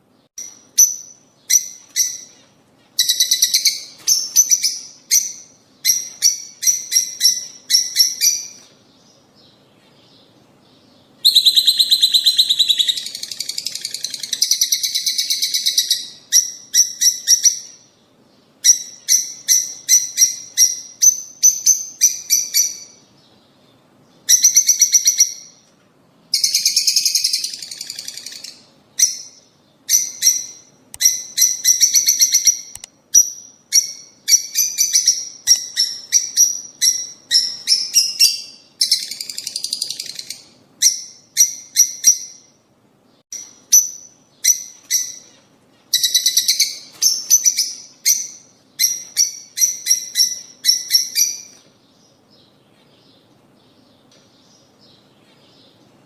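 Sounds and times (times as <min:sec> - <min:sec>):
lovebirds chirping shrilly: 0:00.4 - 0:23.3, 0:26.3 - 0:42.6, 0:43.3 - 0:55.8.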